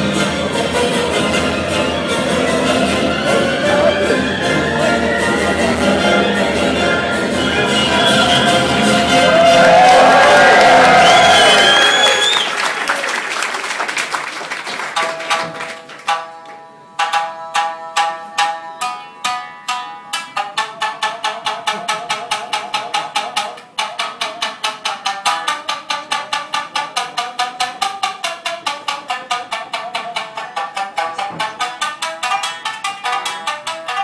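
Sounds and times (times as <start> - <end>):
shamisen plucked: 0.0 - 11.4, 15.0 - 34.0.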